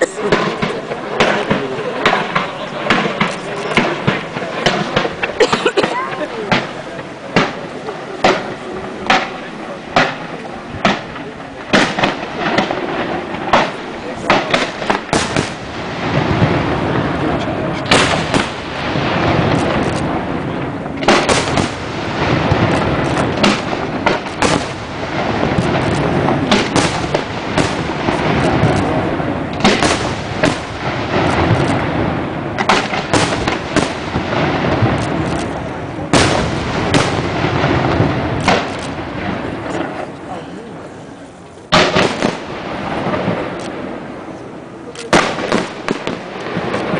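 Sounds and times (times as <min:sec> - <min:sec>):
firework shells bursting: 0:00.0 - 0:40.3, 0:41.5 - 0:46.9
continuous firework rumble: 0:00.0 - 0:46.9.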